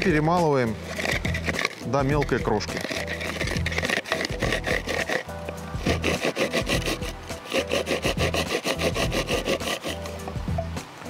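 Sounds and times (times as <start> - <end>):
bait grinder crunching: 0.7 - 10.1.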